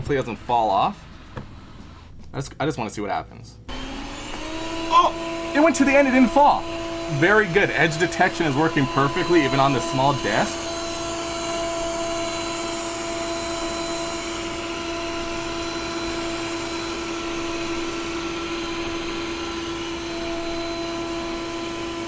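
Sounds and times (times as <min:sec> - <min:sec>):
robot vacuum whirring: 0:03.7 - 0:22.0.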